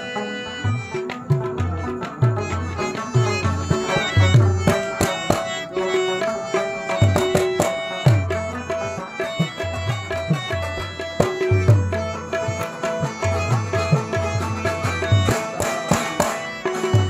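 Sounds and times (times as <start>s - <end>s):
plucked lute notes: 0.0s - 17.0s
tabla strokes: 0.0s - 17.0s.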